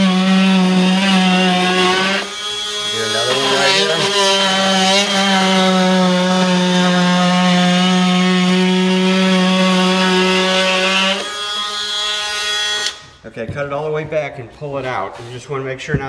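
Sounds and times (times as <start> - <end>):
oscillating multi-tool buzzing: 0.0 - 13.0.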